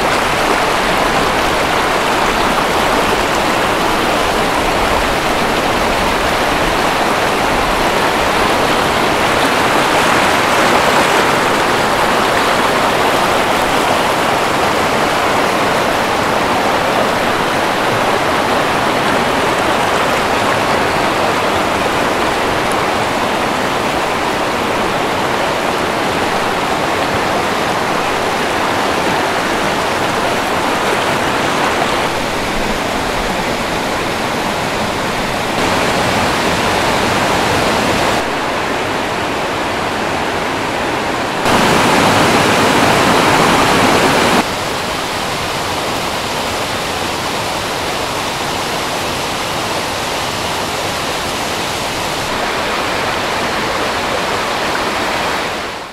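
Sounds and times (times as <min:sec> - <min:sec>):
river water rushing over rocks: 0:00.0 - 0:55.9.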